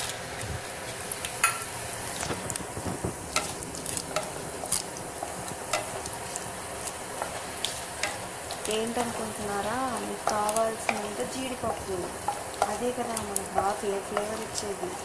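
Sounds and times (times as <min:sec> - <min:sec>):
food sizzling in hot oil: 0:00.0 - 0:15.0
wooden spatula stirring: 0:02.0 - 0:15.0.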